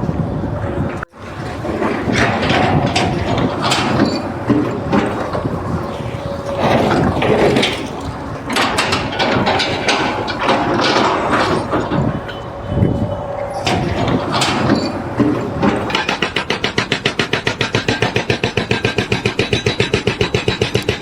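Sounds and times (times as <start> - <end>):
knocks and clatter: 1.2 - 21.0
machine pounding: 1.3 - 12.4, 13.6 - 21.0.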